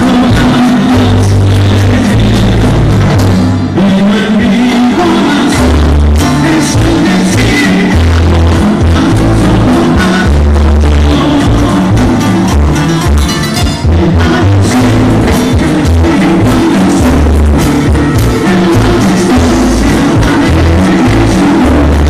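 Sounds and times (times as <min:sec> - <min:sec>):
bass notes: 0:00.0 - 0:22.0
guitars: 0:00.0 - 0:22.0
person singing: 0:00.0 - 0:22.0.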